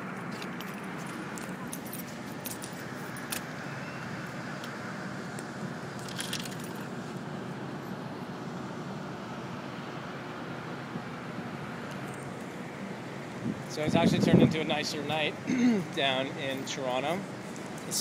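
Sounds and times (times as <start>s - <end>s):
city traffic hum: 0.0s - 18.0s.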